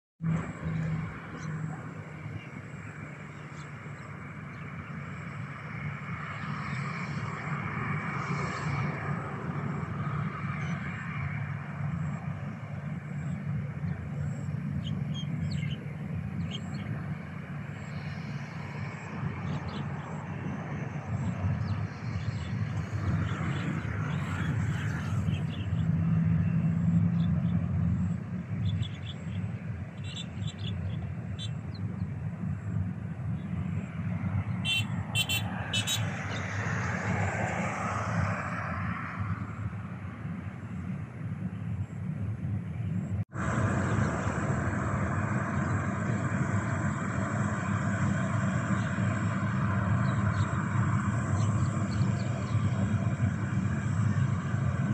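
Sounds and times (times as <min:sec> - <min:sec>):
distant aircraft and traffic rumble: 0:00.2 - 0:54.9.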